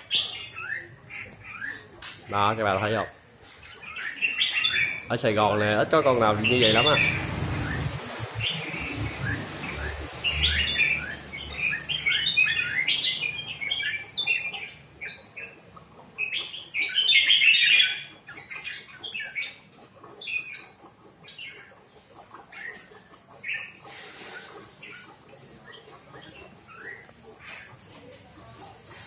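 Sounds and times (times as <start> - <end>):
bulbuls chirping: 0.0 - 29.0.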